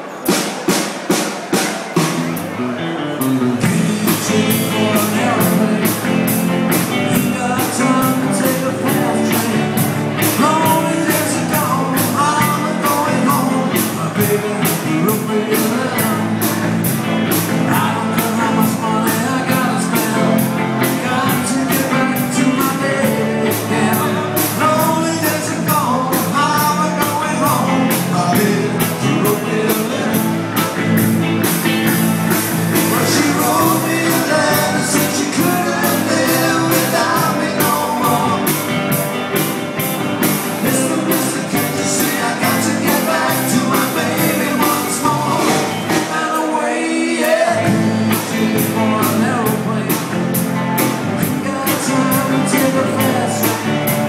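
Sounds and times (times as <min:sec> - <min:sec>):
live rock band playing: 0:00.0 - 0:54.0
lead vocal singing: 0:03.6 - 0:31.1, 0:31.8 - 0:54.0.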